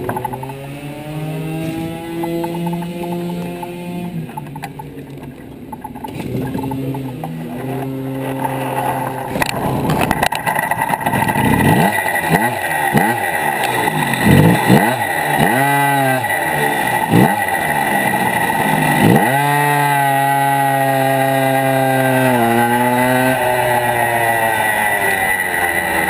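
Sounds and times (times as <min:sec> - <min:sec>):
small motorcycle engine revving: 0:00.0 - 0:26.0.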